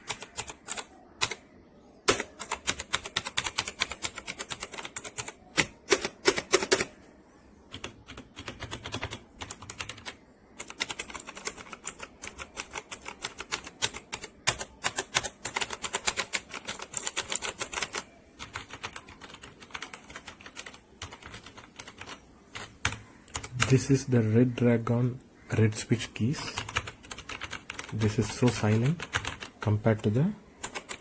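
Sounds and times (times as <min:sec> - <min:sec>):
mechanical keyboard typing: 0:00.0 - 0:01.4, 0:02.0 - 0:06.9, 0:07.7 - 0:24.0, 0:26.4 - 0:31.0.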